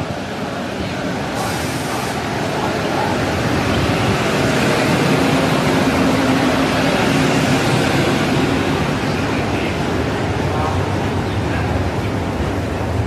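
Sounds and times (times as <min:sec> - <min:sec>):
electric locomotive passing: 0:00.0 - 0:13.0.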